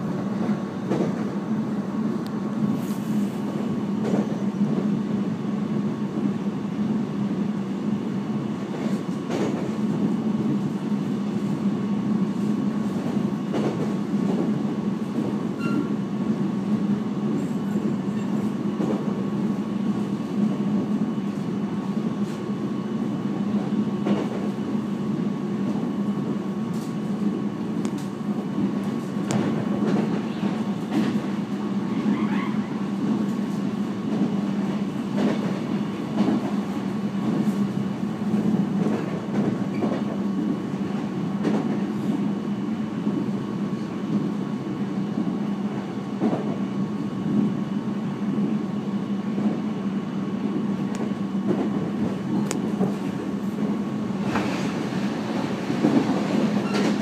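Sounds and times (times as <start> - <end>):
train running hum: 0.0 - 57.0.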